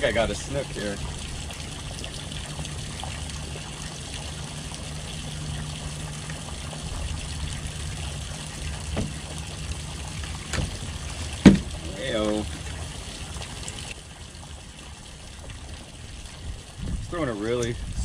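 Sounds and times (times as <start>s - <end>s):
low steady hum: 0.0s - 18.0s
water lapping against boat hull: 0.0s - 18.0s.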